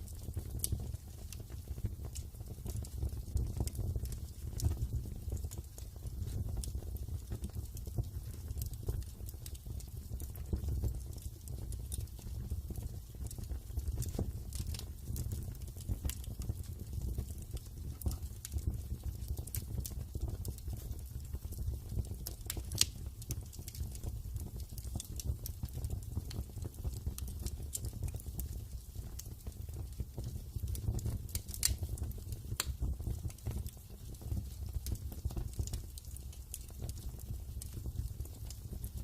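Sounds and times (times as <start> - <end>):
low fire rumble: 0.0 - 39.0
wood fire crackling and popping: 0.0 - 39.0.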